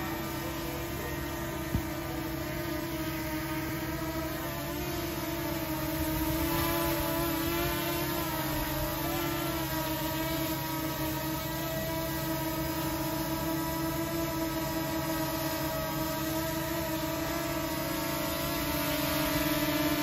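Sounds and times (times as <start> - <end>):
drone propellers buzzing: 0.0 - 20.0.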